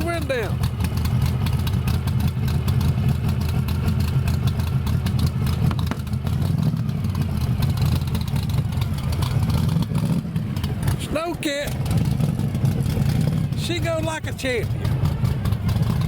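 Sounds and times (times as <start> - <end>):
engine idling with deep rumble: 0.0 - 16.0.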